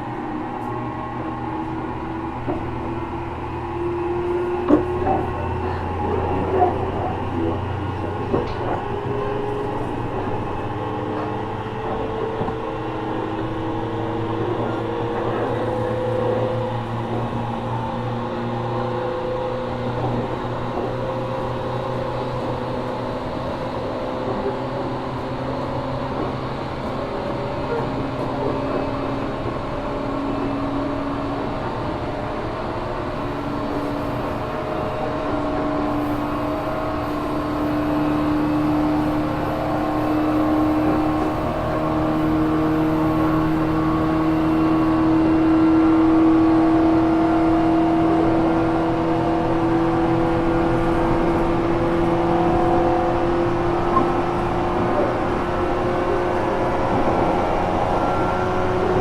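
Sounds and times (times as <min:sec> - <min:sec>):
train motor whine: 0:00.0 - 0:59.0
train running gear rumble: 0:00.0 - 0:59.0.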